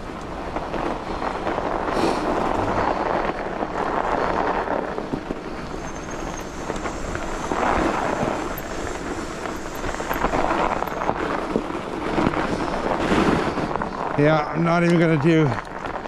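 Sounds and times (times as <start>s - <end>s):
bike tyres crunching on snow: 0.0s - 16.0s
wind on microphone: 0.0s - 16.0s.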